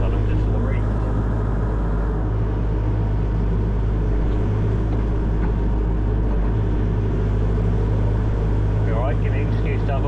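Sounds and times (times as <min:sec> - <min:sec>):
excavator diesel engine droning: 0:00.0 - 0:10.0.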